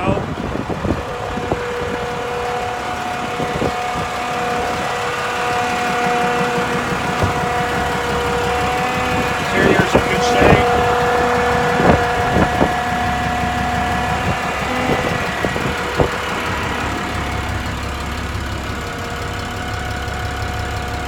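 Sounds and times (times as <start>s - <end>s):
constant whine: 0.0s - 21.0s
diesel truck engine idling: 0.0s - 21.0s.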